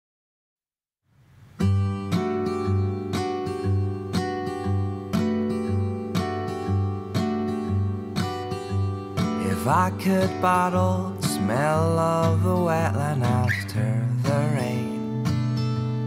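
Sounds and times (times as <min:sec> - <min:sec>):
acoustic guitar strumming: 0:01.4 - 0:16.0.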